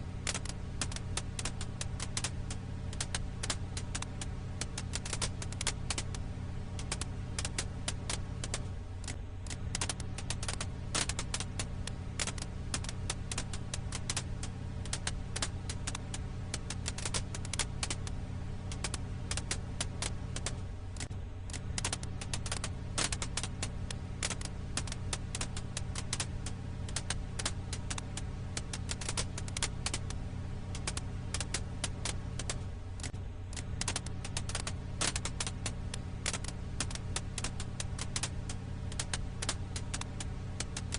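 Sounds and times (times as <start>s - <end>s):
campfire crackling: 0.0s - 40.9s
low rumble: 0.0s - 40.9s.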